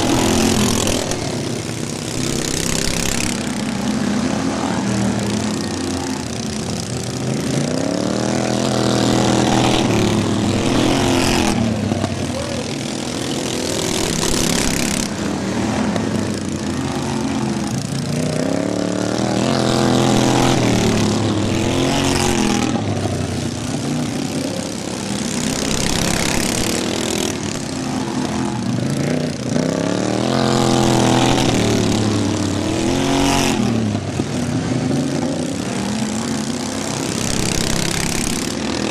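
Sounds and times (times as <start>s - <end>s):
racing lawn mower engines: 0.0s - 38.9s.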